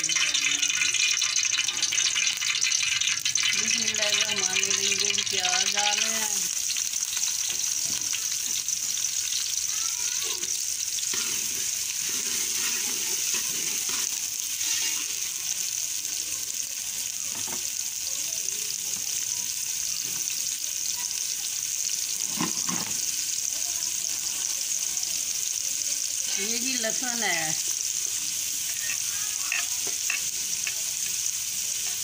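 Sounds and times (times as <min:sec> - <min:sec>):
onions sizzling in a pot: 0:00.0 - 0:32.0.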